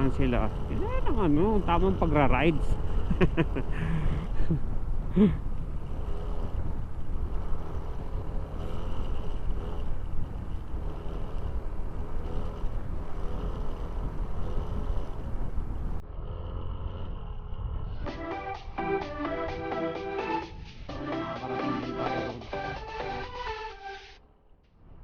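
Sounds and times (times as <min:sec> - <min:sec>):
motorcycle engine running: 0:00.0 - 0:23.1.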